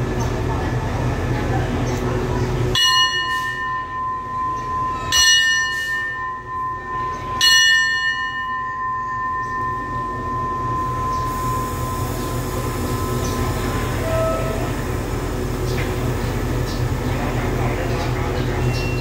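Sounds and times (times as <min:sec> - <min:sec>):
low rumble of standing train: 0:00.0 - 0:19.0
railway station bell ringing: 0:00.0 - 0:19.0.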